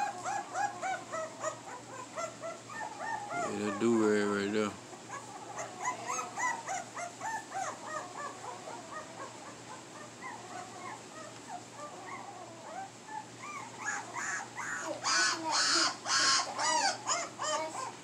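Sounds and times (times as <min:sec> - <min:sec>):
puppies whimpering and squeaking: 0:00.0 - 0:18.0.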